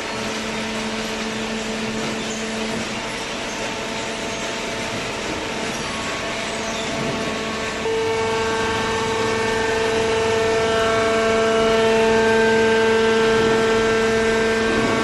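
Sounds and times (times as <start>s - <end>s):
baler motor hum with whine: 0.0s - 15.0s.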